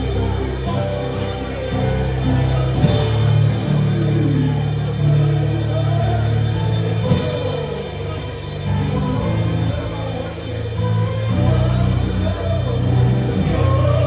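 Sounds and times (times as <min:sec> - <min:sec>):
live worship band playing: 0:00.0 - 0:14.0.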